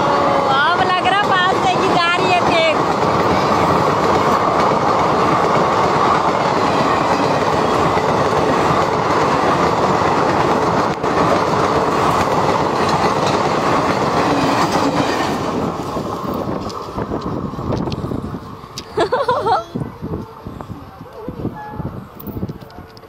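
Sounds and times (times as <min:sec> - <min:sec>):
train coaches passing at speed: 0:00.0 - 0:23.0.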